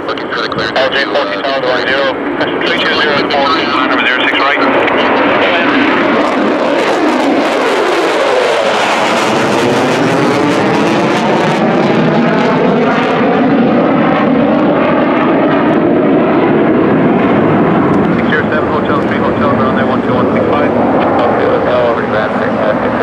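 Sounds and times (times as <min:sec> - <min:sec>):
fighter jet passing overhead: 0:00.0 - 0:23.0.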